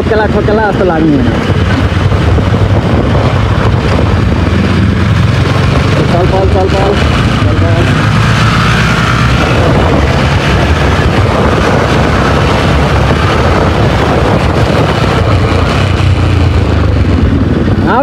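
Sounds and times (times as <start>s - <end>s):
motorcycle engine running: 0.0s - 18.0s
wind and road rush: 0.0s - 18.0s.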